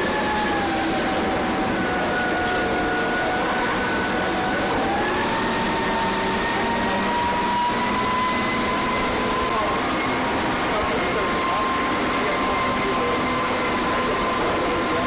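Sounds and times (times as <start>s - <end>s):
machine running with whining tones: 0.0s - 15.0s.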